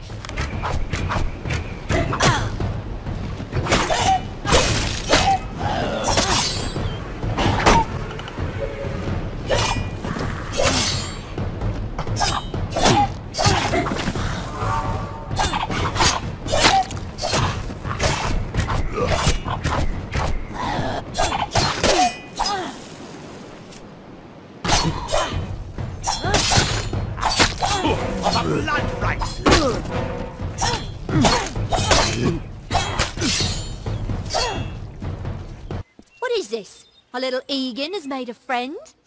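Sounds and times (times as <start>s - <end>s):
game background music: 0.0s - 39.0s.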